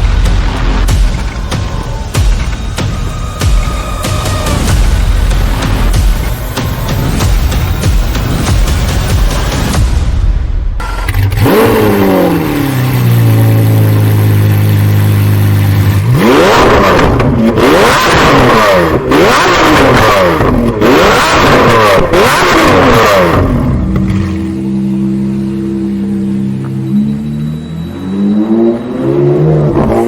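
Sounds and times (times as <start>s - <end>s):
sports car engine idling and revving: 0.0s - 9.9s, 10.8s - 30.0s.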